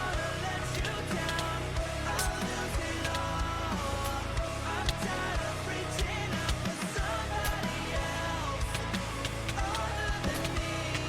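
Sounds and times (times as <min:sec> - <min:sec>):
rock song with guitar: 0:00.0 - 0:11.0.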